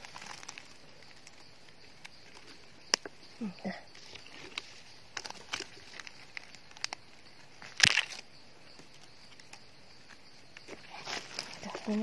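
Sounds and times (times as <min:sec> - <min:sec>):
dry leaf litter rustling: 0:00.0 - 0:08.3, 0:08.9 - 0:12.0
mushroom crunch: 0:00.0 - 0:12.0.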